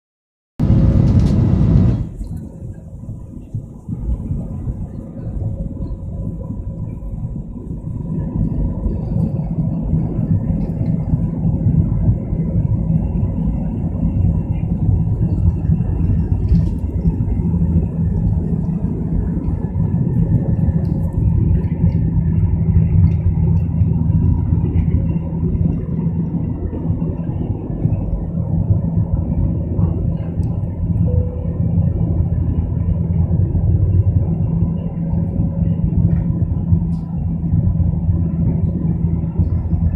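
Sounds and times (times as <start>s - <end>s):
jet engines at takeoff thrust: 0.6s - 39.9s.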